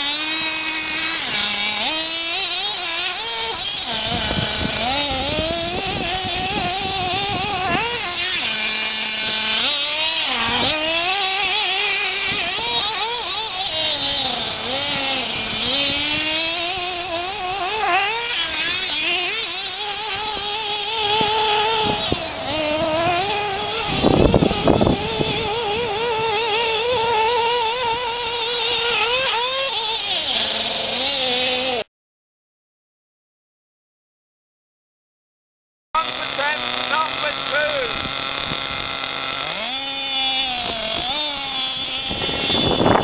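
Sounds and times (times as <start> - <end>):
small two-stroke engine revving: 0.0 - 31.9, 36.0 - 43.0.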